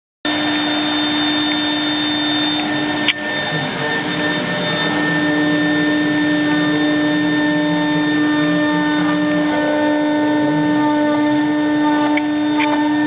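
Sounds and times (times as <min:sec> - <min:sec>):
cnc router machine whine: 0:00.3 - 0:13.0.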